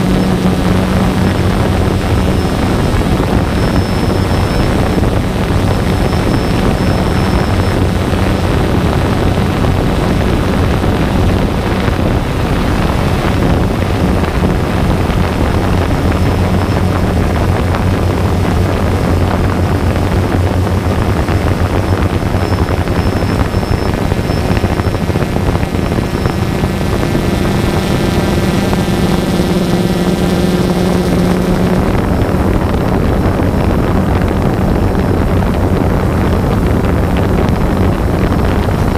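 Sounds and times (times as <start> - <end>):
drone buzzing hum: 0.0 - 38.9
wind rushing over microphone: 0.0 - 38.9.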